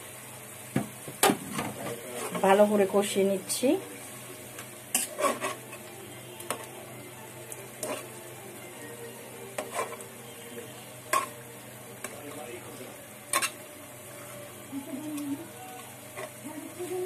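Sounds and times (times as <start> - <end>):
soft sizzle: 0.0 - 17.0.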